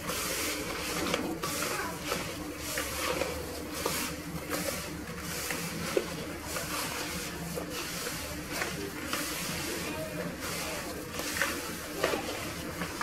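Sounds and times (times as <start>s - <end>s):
hand squeezing dough in bowl: 0.0s - 13.0s.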